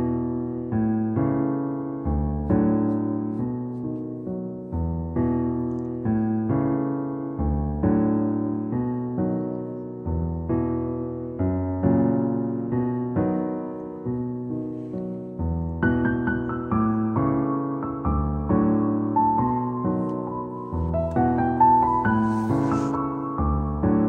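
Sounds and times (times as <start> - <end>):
gentle piano piece: 0.0 - 24.0.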